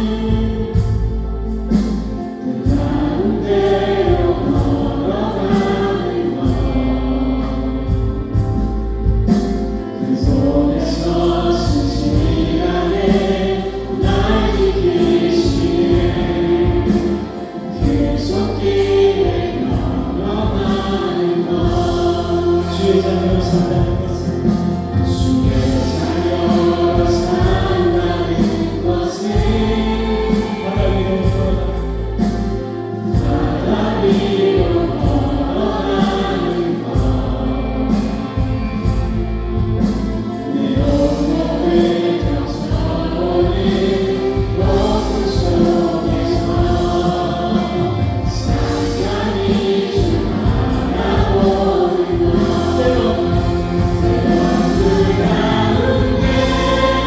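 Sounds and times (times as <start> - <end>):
group of voices singing: 0.0 - 57.0
worship band playing: 0.0 - 57.0.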